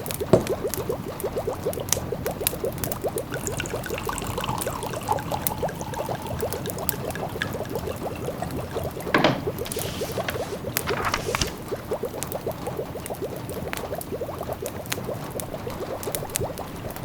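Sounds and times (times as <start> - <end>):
pot of food bubbling: 0.0 - 17.0.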